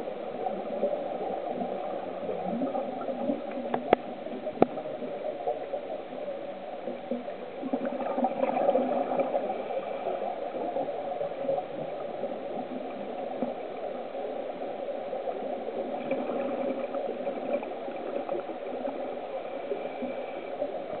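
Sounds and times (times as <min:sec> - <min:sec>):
underwater bubbling and gurgling: 0:00.0 - 0:21.0.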